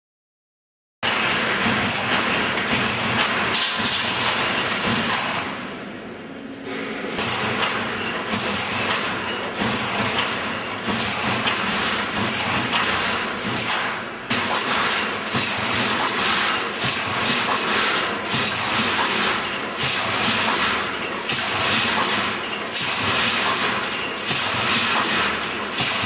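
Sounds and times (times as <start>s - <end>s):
welding machine clatter: 1.0s - 6.1s, 7.1s - 26.0s.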